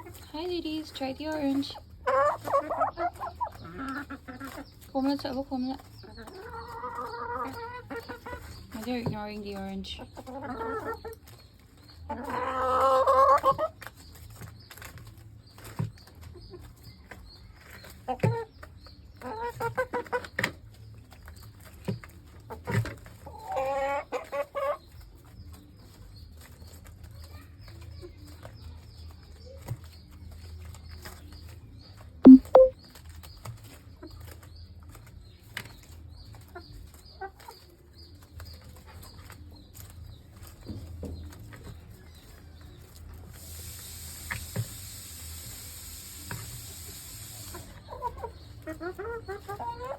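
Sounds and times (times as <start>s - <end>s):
hens clucking: 0.0s - 26.5s, 33.6s - 44.7s, 46.2s - 49.9s.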